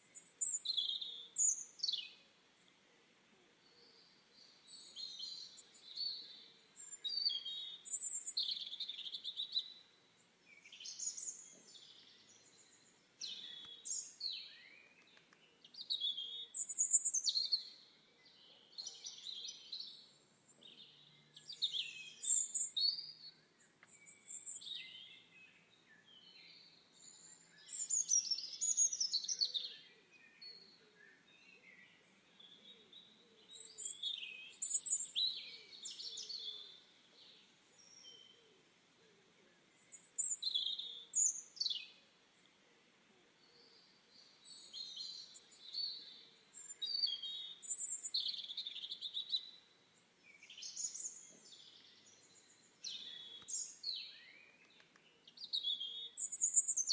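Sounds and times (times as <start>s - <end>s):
songbirds singing: 0.0s - 56.9s.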